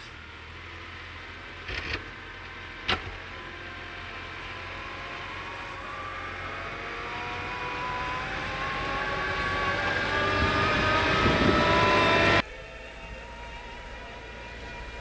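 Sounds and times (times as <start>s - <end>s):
wheel loader diesel engine: 0.0s - 15.0s.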